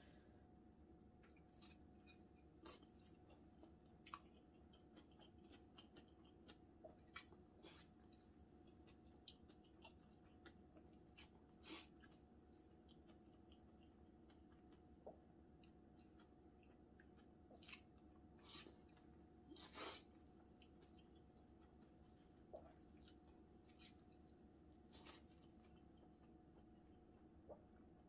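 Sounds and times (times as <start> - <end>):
person chewing and slurping noodles: 1.4 - 27.6.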